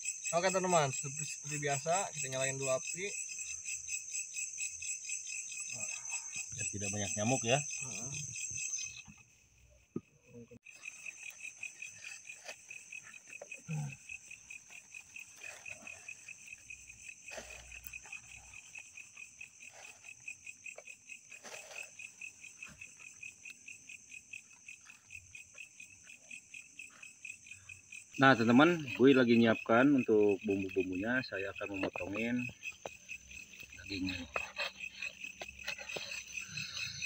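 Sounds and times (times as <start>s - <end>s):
insects chirping in pulsing trill: 0.0s - 37.0s.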